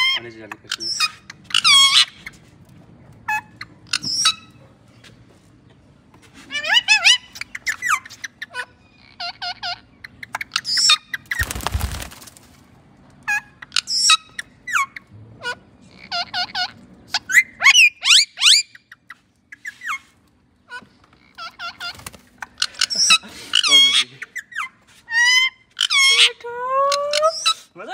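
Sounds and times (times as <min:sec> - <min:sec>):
parakeets chirping and squawking: 0:00.0 - 0:02.5, 0:03.1 - 0:04.6, 0:06.4 - 0:12.1, 0:13.2 - 0:26.4.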